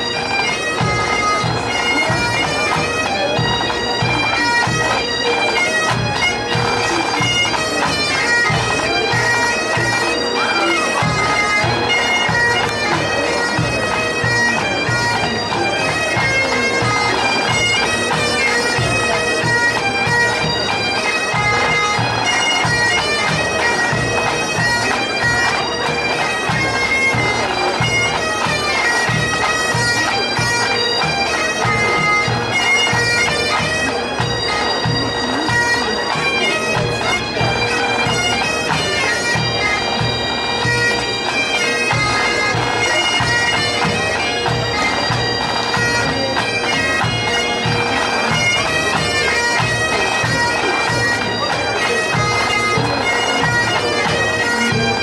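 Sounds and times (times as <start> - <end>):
bagpipes playing a tune: 0.0 - 55.0.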